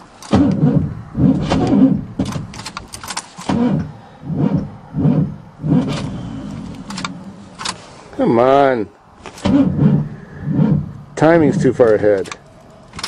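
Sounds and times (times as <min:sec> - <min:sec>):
truck engine cranking: 0:00.0 - 0:13.0.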